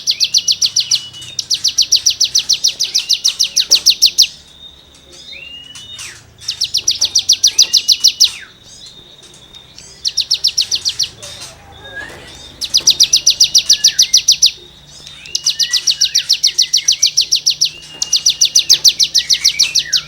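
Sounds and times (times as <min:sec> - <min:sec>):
bird rapid-fire trills: 0:00.0 - 0:20.0.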